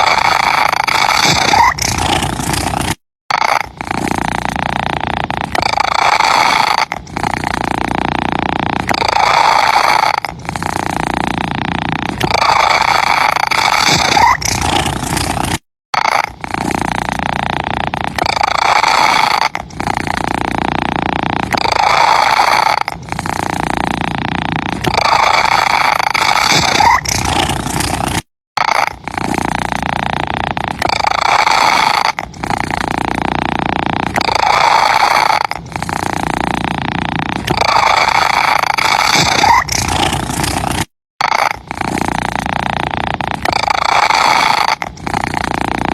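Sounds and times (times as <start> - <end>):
cat purring: 0.0 - 45.9.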